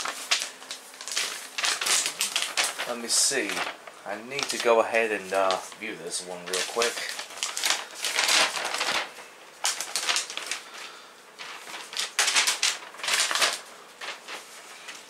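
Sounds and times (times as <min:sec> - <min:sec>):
paper rustling and crackling: 0:00.0 - 0:15.0.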